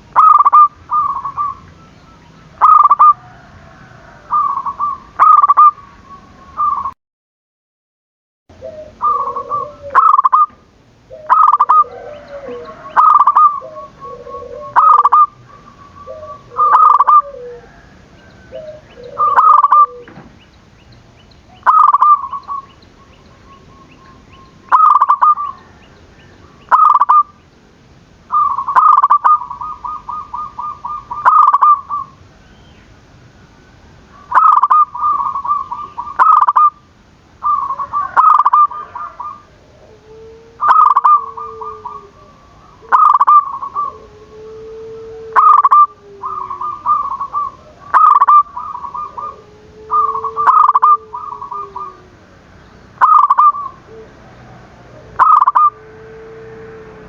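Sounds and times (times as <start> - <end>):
dove cooing with rolling trill: 0.0 - 7.0, 8.5 - 20.5, 21.2 - 27.4, 28.2 - 32.3, 34.0 - 57.0
lower-pitched dove cooing: 0.0 - 7.0, 8.5 - 20.4, 21.5 - 27.4, 28.3 - 32.2, 34.1 - 36.8, 37.4 - 57.0.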